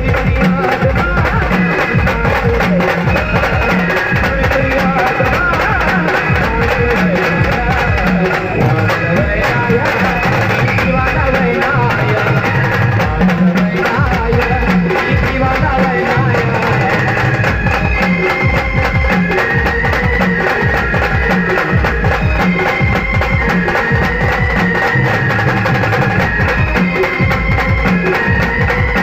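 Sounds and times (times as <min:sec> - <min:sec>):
held melody line: 0:00.0 - 0:29.0
steady drum beat: 0:00.0 - 0:29.0.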